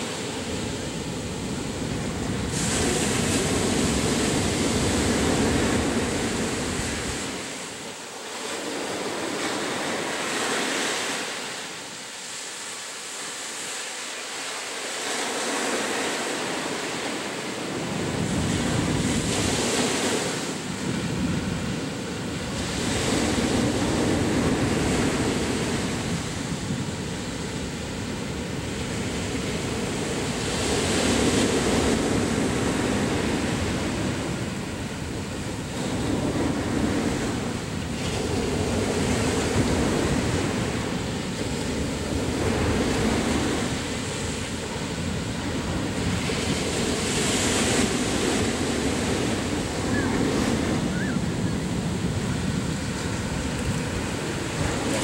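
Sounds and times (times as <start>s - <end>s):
wind rumble on microphone: 0.0s - 11.2s, 15.2s - 55.0s
ocean surf breaking on beach: 0.0s - 55.0s.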